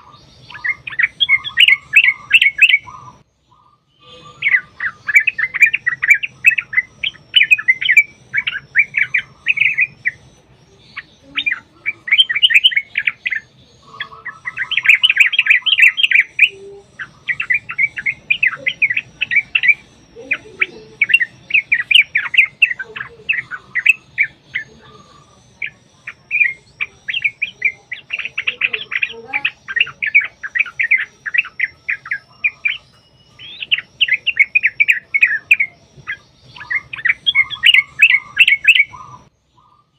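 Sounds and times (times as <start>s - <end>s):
birds chattering: 0.0s - 39.9s.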